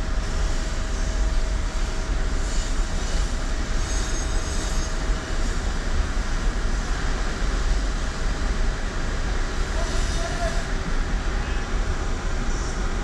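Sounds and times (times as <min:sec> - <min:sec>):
car idling rumble and hiss: 0:00.0 - 0:13.0.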